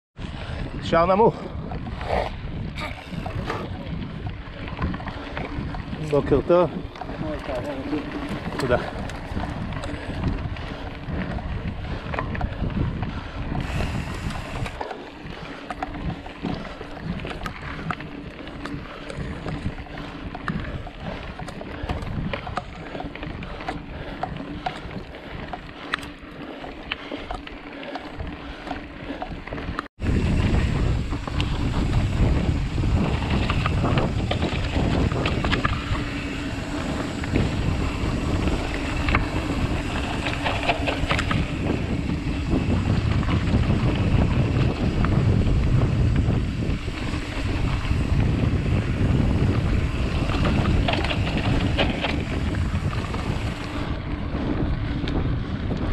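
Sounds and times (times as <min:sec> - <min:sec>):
bike rattling over bumps: 0:00.2 - 0:55.9
bike tyres rumbling on dirt: 0:00.2 - 0:55.9
wind buffeting microphone: 0:00.2 - 0:55.9.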